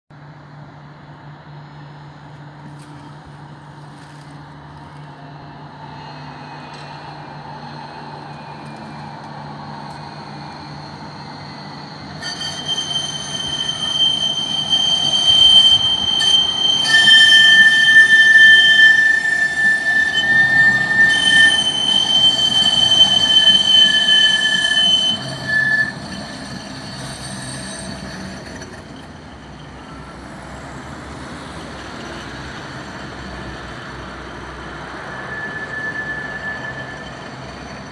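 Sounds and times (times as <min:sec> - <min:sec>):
rail vehicle rolling rumble: 0:00.1 - 0:37.9
tram wheels squealing: 0:01.2 - 0:37.9.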